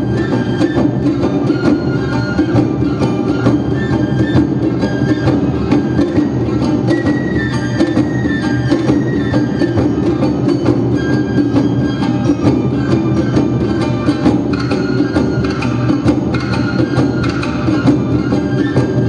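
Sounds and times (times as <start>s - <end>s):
bamboo flute melody: 0.0s - 19.0s
shamisen: 0.0s - 19.0s
taiko drums: 0.0s - 19.0s.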